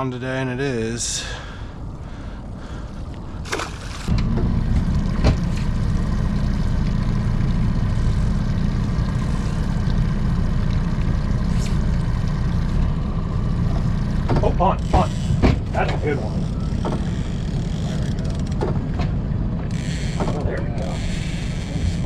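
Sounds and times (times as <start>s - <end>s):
outboard motor running: 1.4s - 22.0s.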